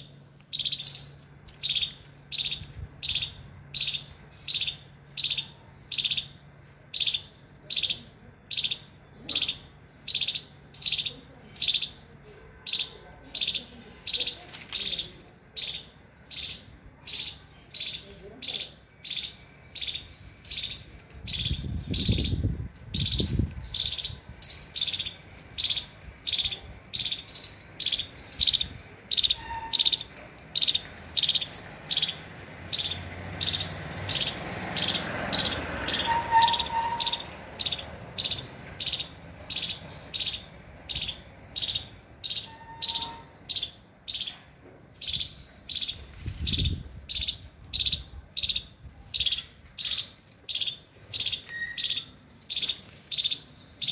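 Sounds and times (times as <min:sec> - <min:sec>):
animal chirping: 0:00.0 - 0:12.0, 0:12.6 - 0:22.4, 0:23.0 - 0:44.4, 0:45.0 - 0:53.9.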